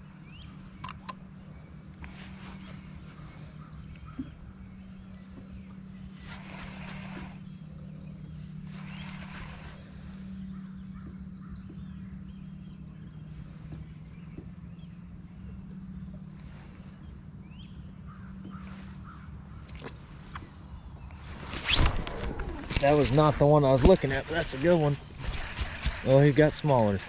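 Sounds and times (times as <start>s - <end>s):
faint bird calls: 0.4s - 27.0s
electric trolling motor humming: 1.2s - 17.4s, 21.1s - 27.0s.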